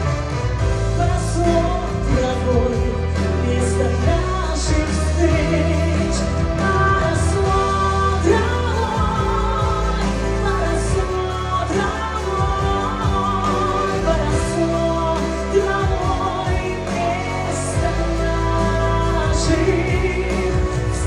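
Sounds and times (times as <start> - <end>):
instrumental backing music: 0.0 - 21.0
person singing: 0.0 - 21.0.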